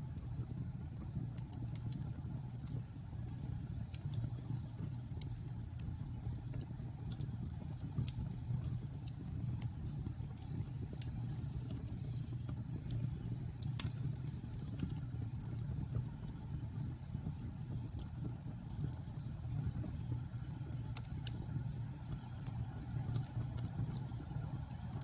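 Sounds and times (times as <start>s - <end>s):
burning wood crackling and popping: 0.0s - 25.0s
low rumble of flames: 0.0s - 25.0s.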